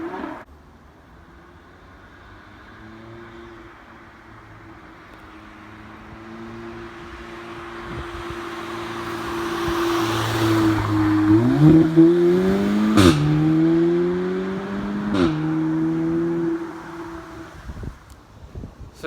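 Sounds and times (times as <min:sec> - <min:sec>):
car engine approaching: 0:00.0 - 0:18.4.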